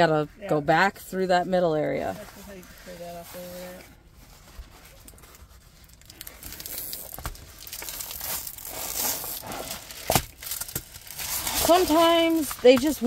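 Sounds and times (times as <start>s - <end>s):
plastic film crinkling: 2.0s - 13.0s.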